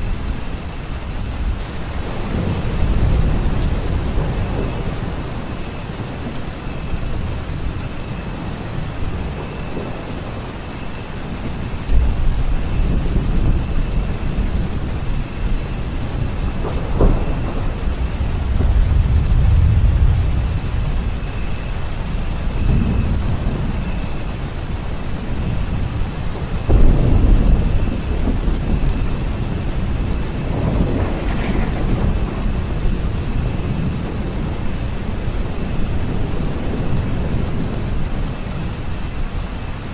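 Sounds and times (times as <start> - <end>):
thunder clap and rumbling: 0.0 - 39.6
steady rain: 0.0 - 39.9.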